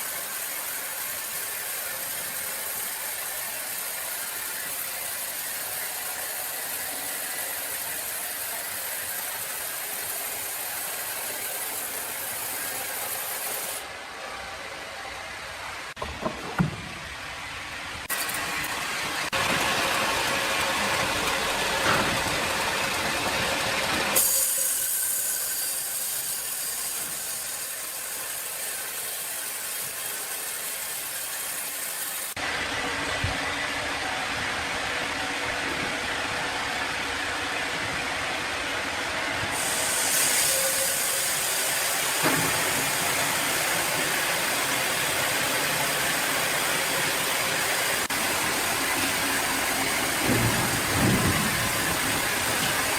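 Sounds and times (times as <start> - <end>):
sawmill machinery hissing: 0.0 - 16.3, 16.9 - 52.9.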